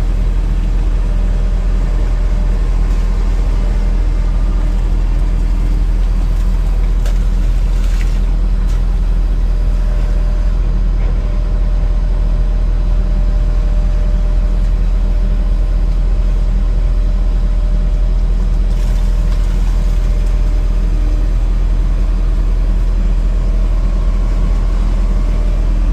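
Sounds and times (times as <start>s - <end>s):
diesel engine droning: 0.0s - 25.9s.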